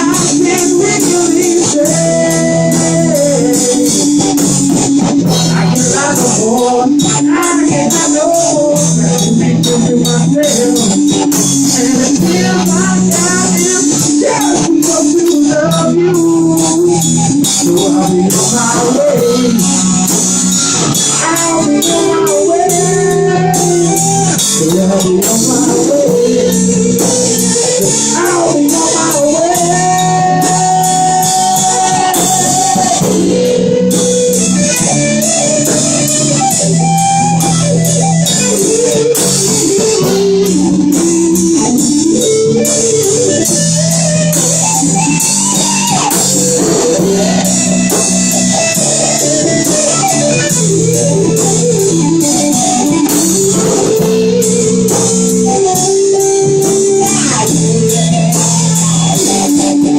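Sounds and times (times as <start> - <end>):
bass guitar notes: 0.0 - 59.9
drum cymbals: 0.0 - 59.9
electric guitar lead: 0.0 - 59.9.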